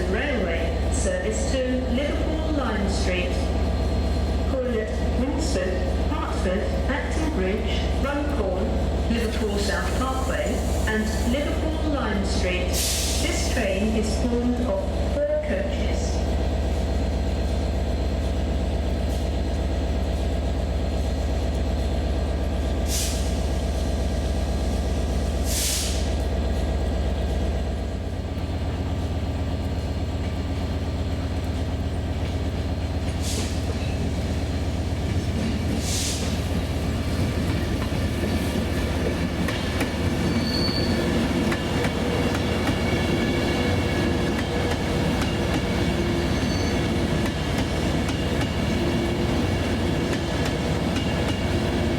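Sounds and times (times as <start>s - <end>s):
train engine drone: 0.0s - 51.9s.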